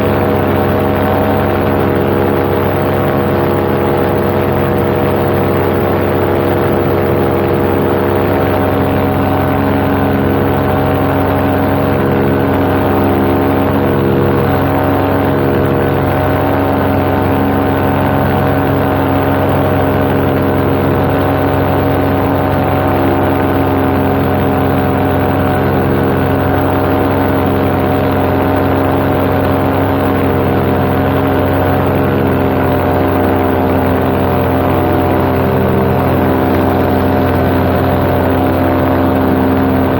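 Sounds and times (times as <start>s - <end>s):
paramotor engine droning: 0.0s - 39.9s.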